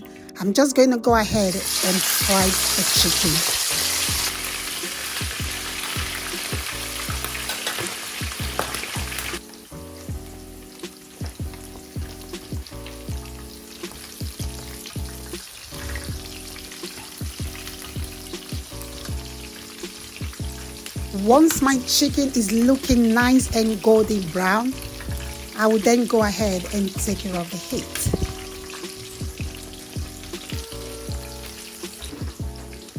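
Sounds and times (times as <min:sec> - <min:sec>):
soft music with steady beat: 0:00.0 - 0:32.9
chicken sizzling in hot oil: 0:01.2 - 0:32.9.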